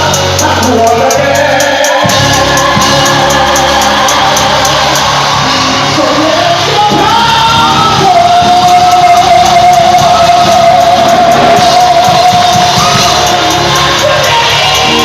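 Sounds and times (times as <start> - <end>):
band accompaniment: 0.0 - 15.0
person singing: 0.0 - 15.0.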